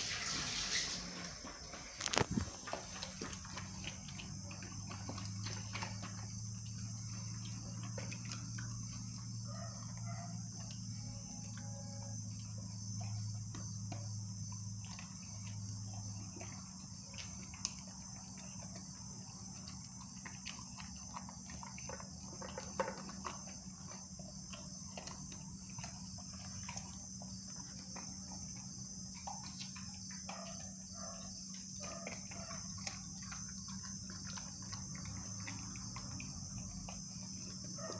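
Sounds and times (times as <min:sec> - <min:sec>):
crickets chirping: 0:00.0 - 0:37.9
puppy chewing wetly: 0:00.0 - 0:37.9.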